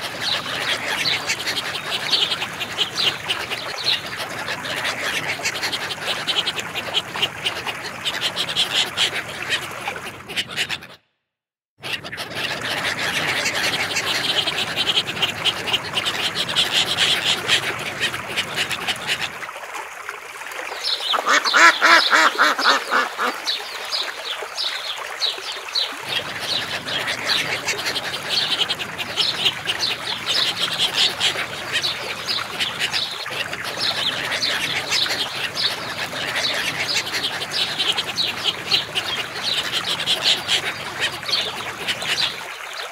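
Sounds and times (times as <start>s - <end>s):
ducks quacking: 0.0s - 11.0s, 11.8s - 19.4s, 21.0s - 23.6s, 26.0s - 42.4s.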